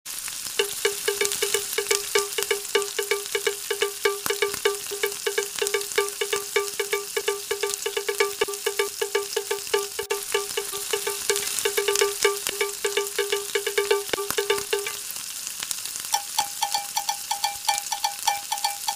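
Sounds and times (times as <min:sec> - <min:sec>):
bell-like notes repeated: 0:00.6 - 0:15.0, 0:16.2 - 0:18.9.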